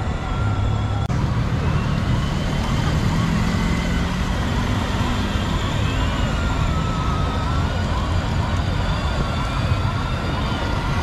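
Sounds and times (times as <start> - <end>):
toy car siren tones: 0.0 - 2.9, 4.8 - 11.0.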